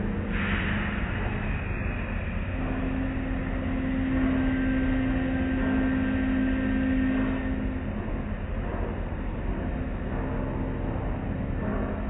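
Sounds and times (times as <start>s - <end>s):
low hum of wash machinery: 0.0s - 12.0s.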